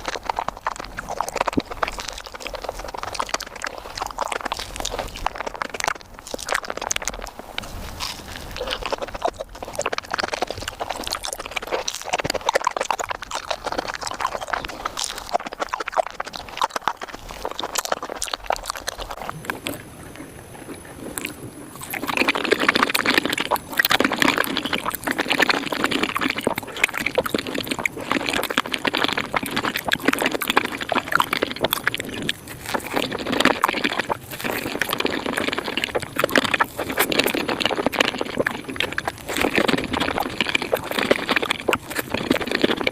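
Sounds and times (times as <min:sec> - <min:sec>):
close chewing and mouth sounds: 0:00.0 - 0:42.9.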